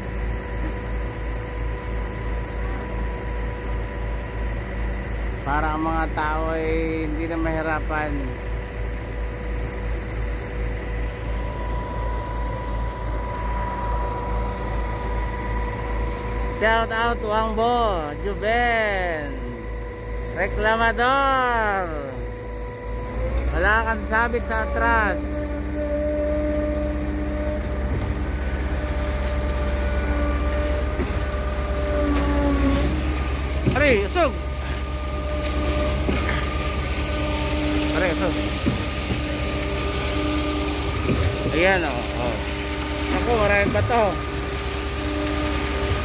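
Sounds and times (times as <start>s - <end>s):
constant high whine: 0.0s - 46.0s
diesel engines rumbling: 0.0s - 46.0s
steady higher tones: 9.2s - 46.0s.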